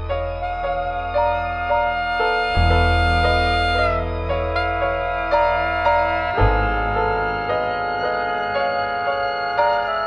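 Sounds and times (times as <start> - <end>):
instrumental jazz band: 0.0 - 10.0.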